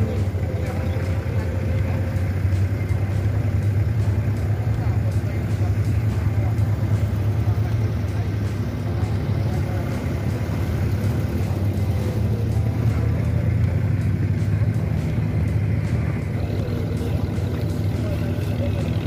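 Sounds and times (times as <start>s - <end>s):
boat diesel engine droning: 0.0s - 19.0s.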